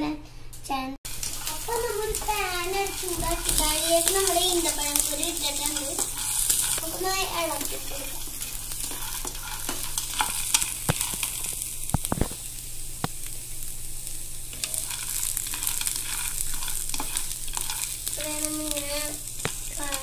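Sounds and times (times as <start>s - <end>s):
seeds rattling on a pan: 1.1s - 20.0s
seeds roasting hiss: 1.1s - 20.0s.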